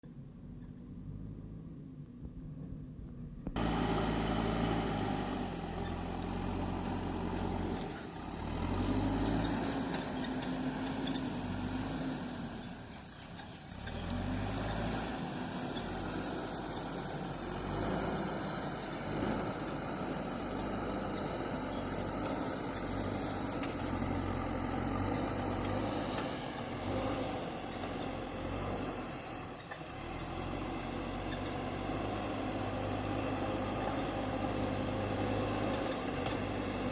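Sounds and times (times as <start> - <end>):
backhoe diesel engine running: 3.6 - 36.9.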